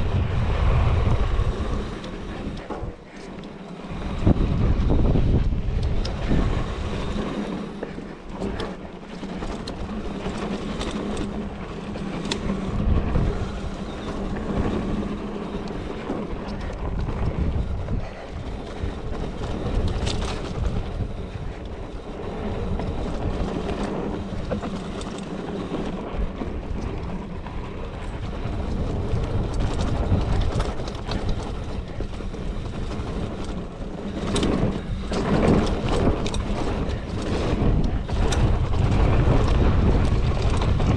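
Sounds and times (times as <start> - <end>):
bike rattling over bumps: 0.0 - 40.9
tyres on packed dirt: 0.0 - 40.9
wind rushing over microphone: 0.0 - 40.9.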